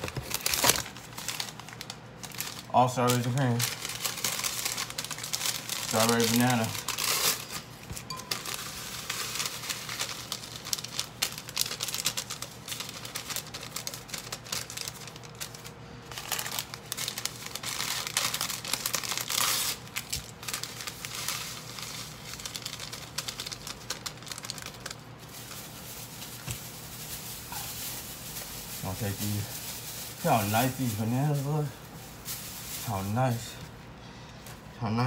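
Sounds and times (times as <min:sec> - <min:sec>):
packets crinkling and tearing: 0:00.0 - 0:33.8.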